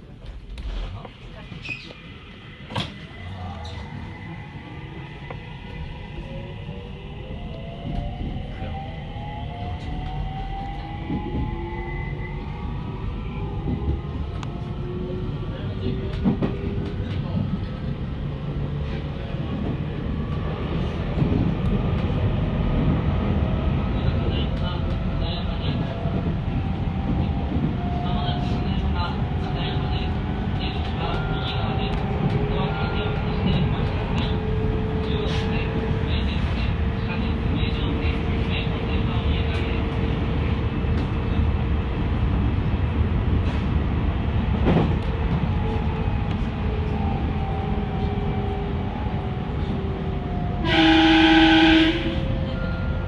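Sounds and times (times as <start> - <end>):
electric train rumbling on track: 0.0 - 53.0.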